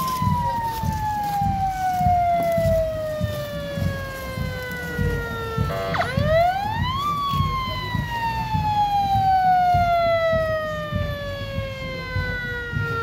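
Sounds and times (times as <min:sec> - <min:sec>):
electronic siren wailing: 0:00.0 - 0:13.0.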